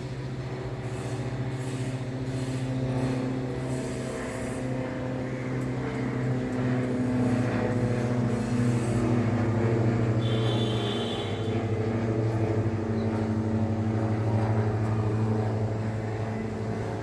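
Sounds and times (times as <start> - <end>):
aircraft engine drone: 0.0 - 17.0.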